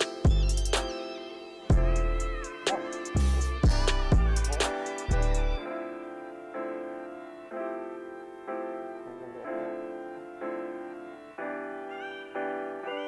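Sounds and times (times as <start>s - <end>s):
keyboard chords: 0.0s - 13.0s.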